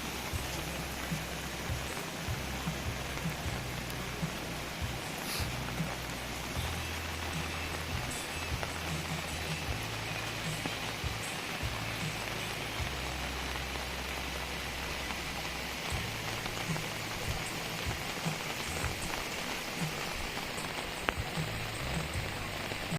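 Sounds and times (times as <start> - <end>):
heavy rain falling: 0.0 - 22.9
single raindrops: 0.0 - 22.9.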